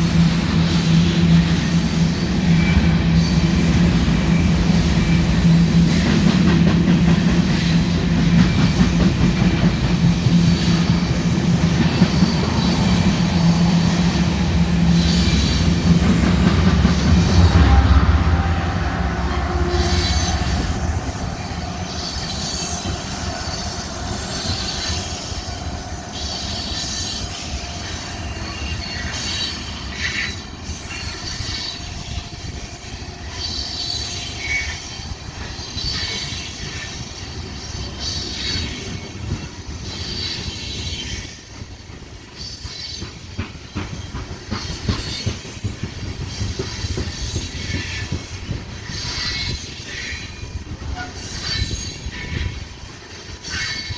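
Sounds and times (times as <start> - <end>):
high wheel squeals: 0.0 - 6.1, 7.0 - 53.9
freight train cars rumbling: 0.0 - 53.9.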